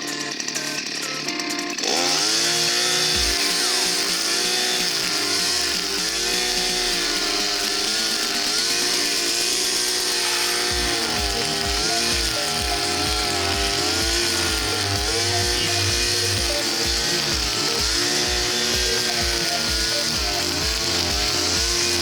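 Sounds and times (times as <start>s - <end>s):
brush cutter engine revving: 0.0s - 22.0s
line head cutting brush: 0.0s - 22.0s.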